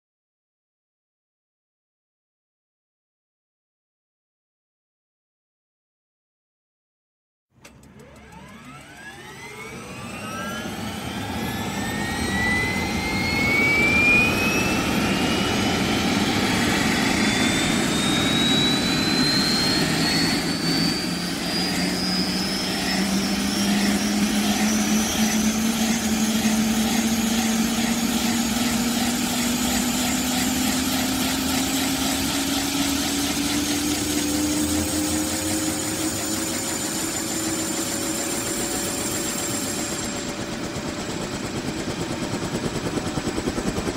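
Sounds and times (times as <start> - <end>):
helicopter engine with turbine whine: 7.6 - 43.9.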